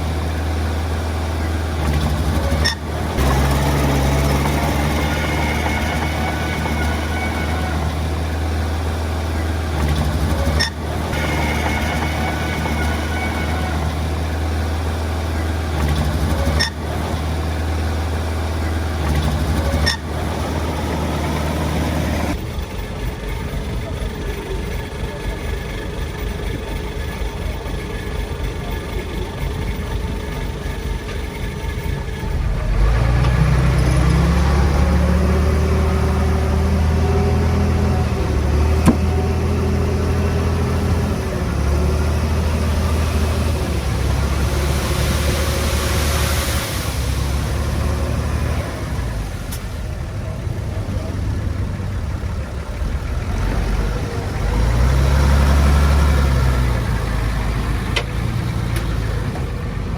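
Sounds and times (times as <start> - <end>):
diesel engine rumbling and revving: 0.0 - 59.9.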